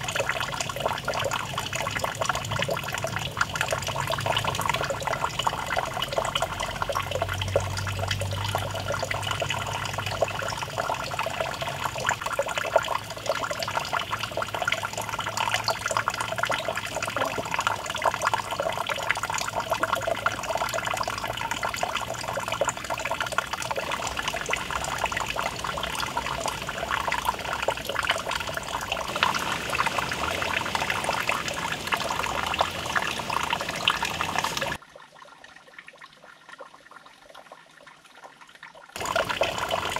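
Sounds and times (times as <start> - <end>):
running water trickling and splashing: 0.0 - 39.9.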